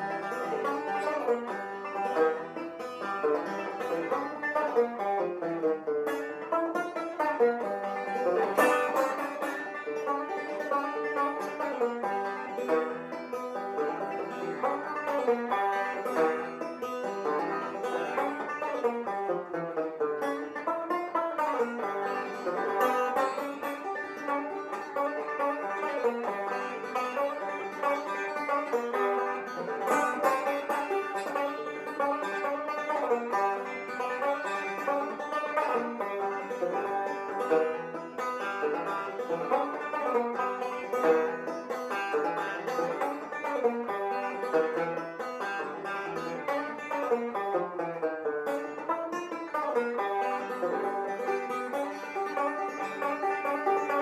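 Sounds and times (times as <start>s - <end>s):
plucked banjo tune: 0.0s - 54.0s.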